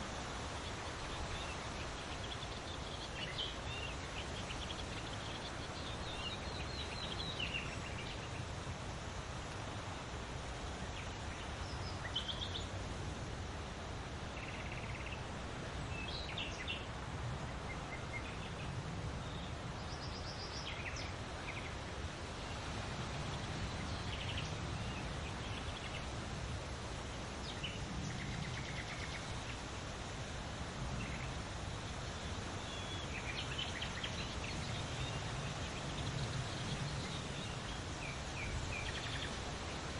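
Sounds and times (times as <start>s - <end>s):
leaves rustling in wind: 0.0s - 39.9s.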